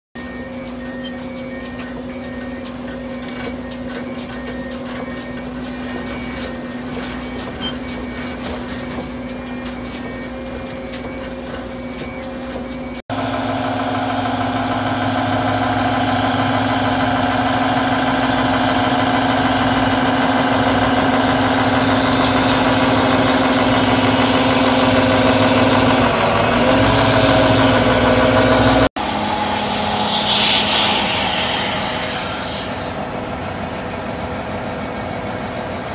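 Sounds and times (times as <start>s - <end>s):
machine engine drone: 0.2s - 35.9s.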